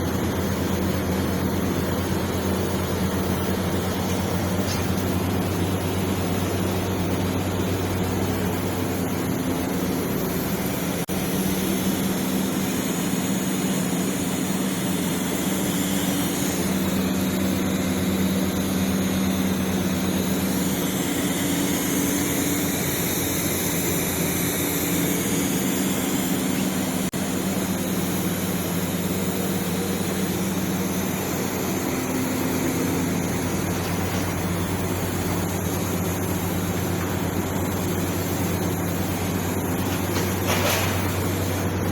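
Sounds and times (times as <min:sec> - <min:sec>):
electrical hum: 0:00.0 - 0:41.9
welding arc hissing: 0:00.1 - 0:41.9.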